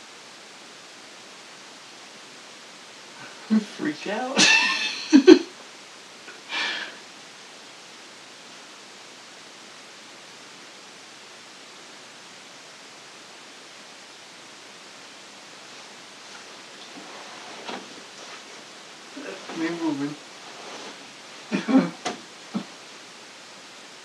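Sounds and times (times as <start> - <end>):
recording noise hiss: 0.0 - 24.0.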